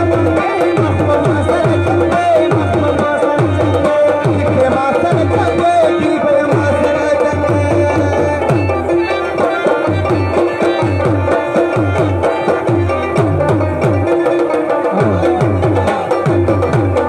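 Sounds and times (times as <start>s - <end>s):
held melody line: 0.0s - 17.0s
tabla playing quick rhythm: 0.0s - 17.0s.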